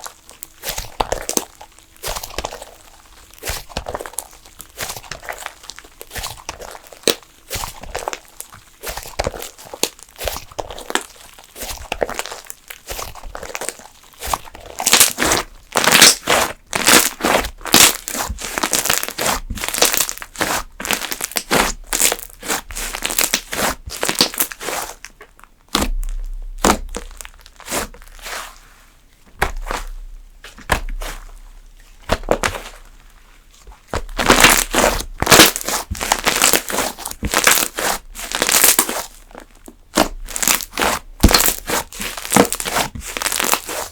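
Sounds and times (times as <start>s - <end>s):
slime crackling when squeezed: 0.0s - 28.2s, 34.0s - 43.9s.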